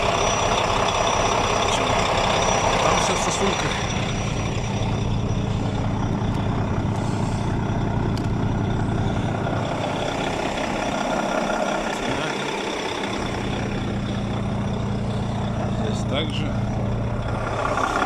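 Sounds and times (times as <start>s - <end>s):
truck diesel engine idling: 0.0s - 18.0s.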